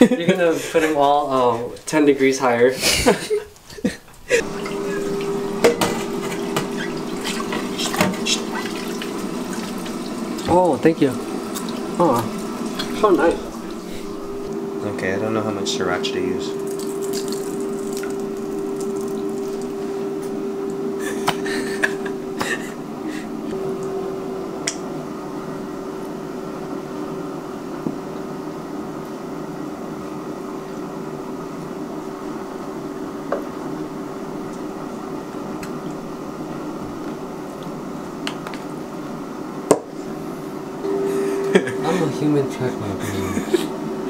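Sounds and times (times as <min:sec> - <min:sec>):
air fryer fan humming: 0:00.0 - 0:44.0.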